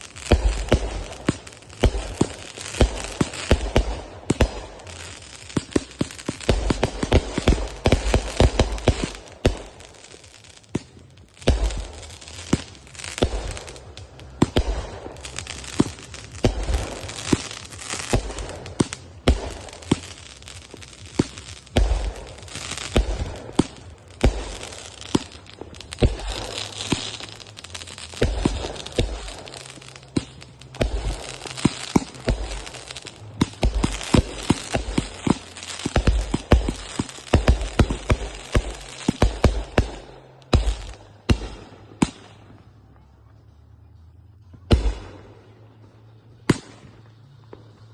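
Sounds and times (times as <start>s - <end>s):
fireworks bangs and booms: 0.0s - 47.9s
fireworks crackling: 0.0s - 47.9s.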